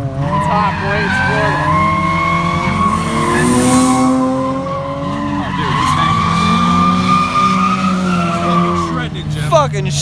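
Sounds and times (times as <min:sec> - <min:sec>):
car engine at high revs: 0:00.0 - 0:10.0
tyres screeching: 0:00.2 - 0:09.5.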